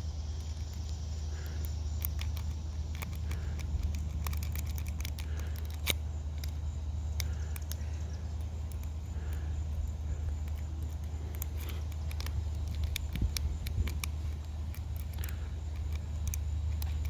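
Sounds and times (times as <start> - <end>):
lock picks clicking metallically: 0.0 - 17.0.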